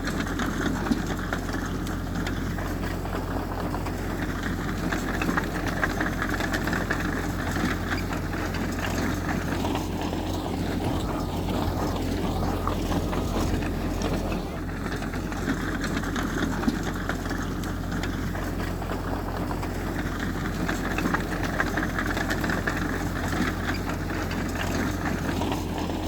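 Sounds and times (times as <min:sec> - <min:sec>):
clatter and rattles: 0:00.0 - 0:26.0
diesel engine running: 0:00.0 - 0:26.0.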